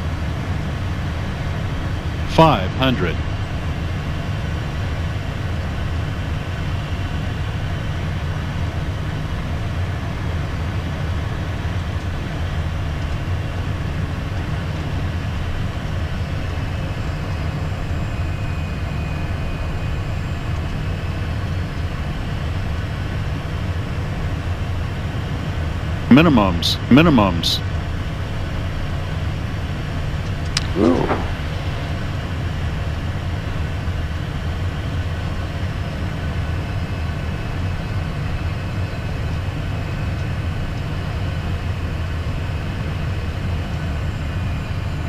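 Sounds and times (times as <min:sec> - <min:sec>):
jet cockpit airflow and engine rumble: 0:00.0 - 0:19.2, 0:20.2 - 0:37.2.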